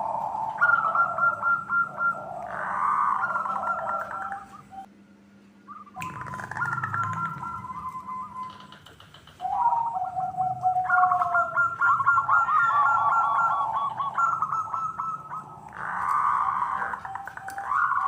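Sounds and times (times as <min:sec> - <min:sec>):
doves cooing: 0:00.0 - 0:04.9, 0:05.7 - 0:18.0.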